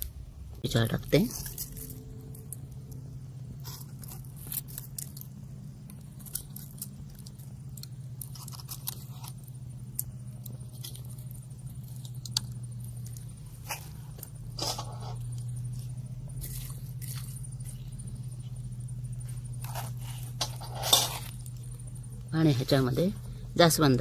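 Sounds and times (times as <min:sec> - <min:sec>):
wood fire crackling and popping: 0:00.0 - 0:22.4
low hum: 0:00.0 - 0:24.0.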